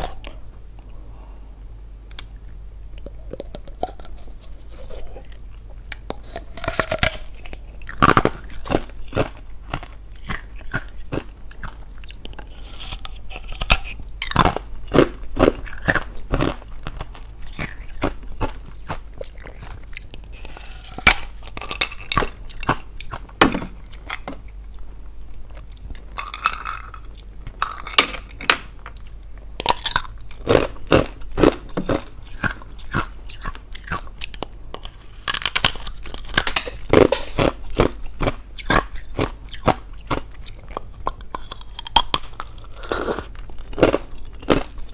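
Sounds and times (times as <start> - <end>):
ice being chewed and crunched: 3.0 - 24.8, 25.4 - 44.9.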